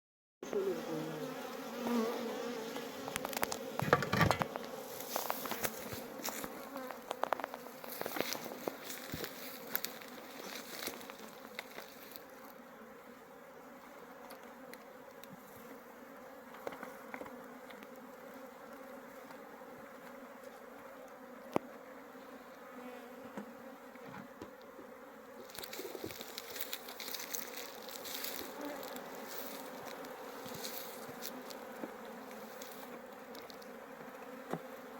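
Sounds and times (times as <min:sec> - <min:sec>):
honeybees buzzing: 0:00.4 - 0:34.9.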